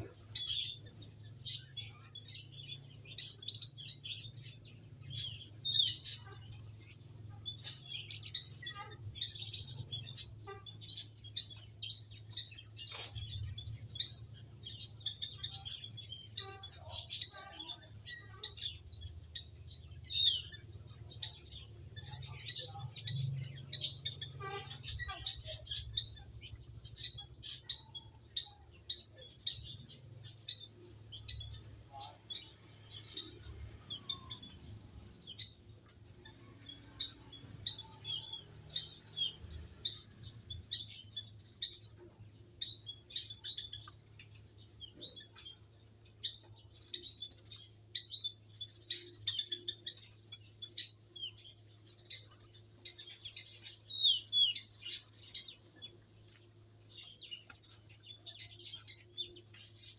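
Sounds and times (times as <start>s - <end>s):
faint low hum: 0.0s - 59.9s
small birds chirping: 0.0s - 59.9s.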